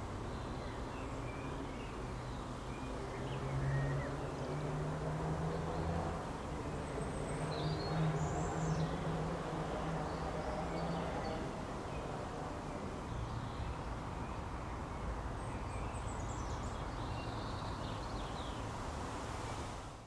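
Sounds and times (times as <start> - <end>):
birds chirping: 0.0 - 18.7.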